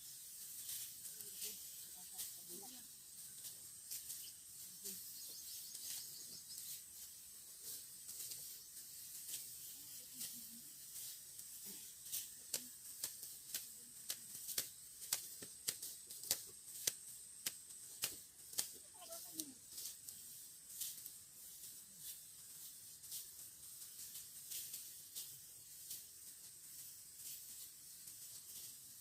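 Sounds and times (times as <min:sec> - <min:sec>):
sickle snipping rice stalks: 0:00.0 - 0:29.0
steady high hiss: 0:00.0 - 0:29.0.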